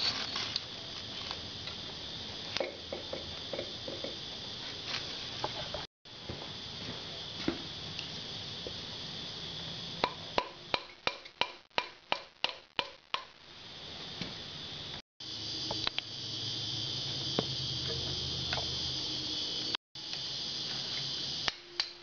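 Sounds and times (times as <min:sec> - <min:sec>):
steady hum and hiss: 0:00.0 - 0:22.0.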